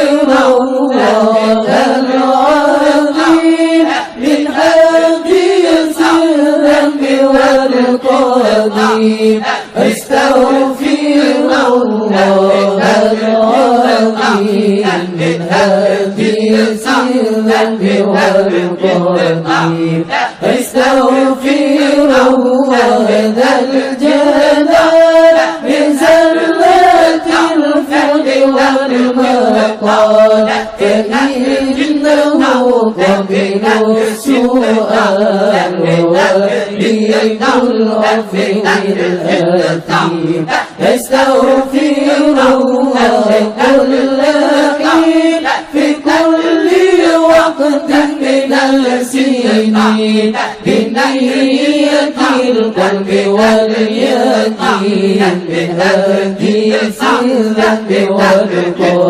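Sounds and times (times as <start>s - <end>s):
melodic chanting: 0.0s - 59.0s.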